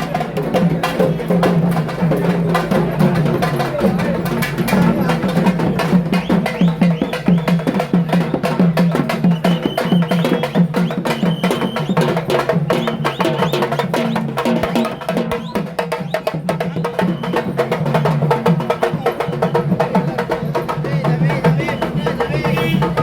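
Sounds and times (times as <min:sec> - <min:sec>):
drums beating fast rhythm: 0:00.0 - 0:23.0.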